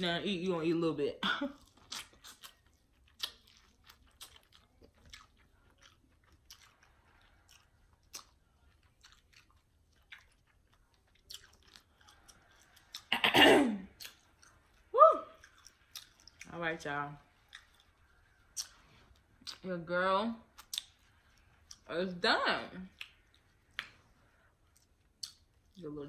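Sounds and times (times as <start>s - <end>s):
person chewing and lip-smacking: 1.5s - 13.2s, 13.8s - 16.6s, 17.2s - 19.7s, 20.5s - 21.9s, 22.8s - 25.9s.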